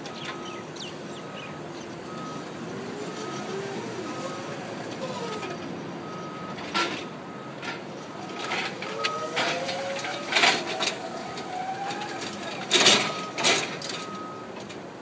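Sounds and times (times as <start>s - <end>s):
forklift reversing alarm beeping: 0.0s - 14.6s.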